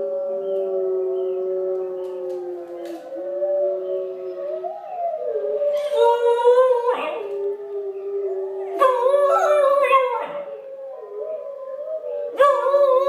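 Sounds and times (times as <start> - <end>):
puppy howling: 0.0 - 13.0
wolves howling through speakers: 0.0 - 13.0.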